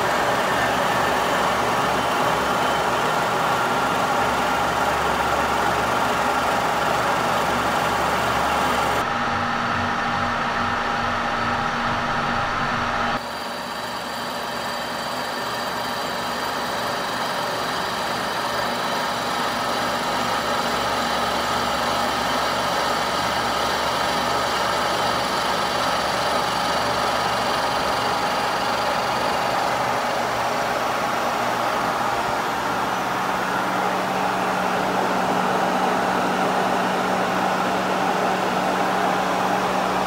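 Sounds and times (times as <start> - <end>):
milling machine droning: 0.0 - 40.0.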